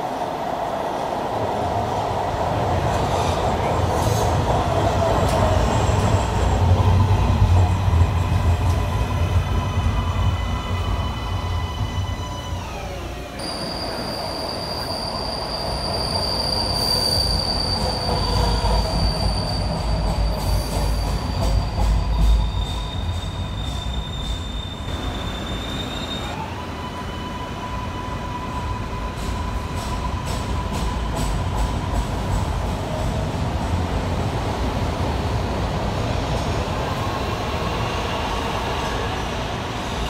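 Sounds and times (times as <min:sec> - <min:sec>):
train wheels rumbling on rail: 0:01.3 - 0:26.4, 0:28.2 - 0:40.0.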